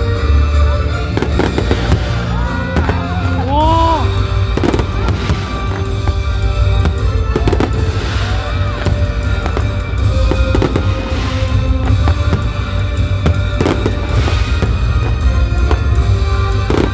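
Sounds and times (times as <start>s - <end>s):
fireworks bangs and crackles: 0.0s - 16.9s
music playing: 0.0s - 16.9s.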